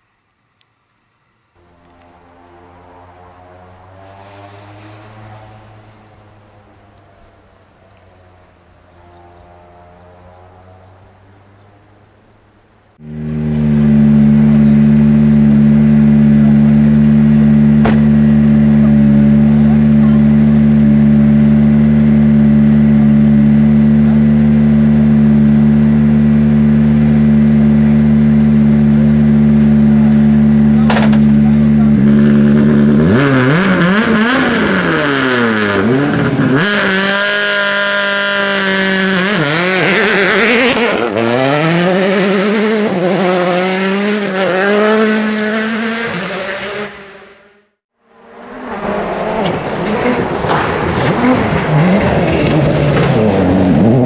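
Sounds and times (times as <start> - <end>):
rally car engine revving: 1.6 - 12.1, 12.9 - 54.0.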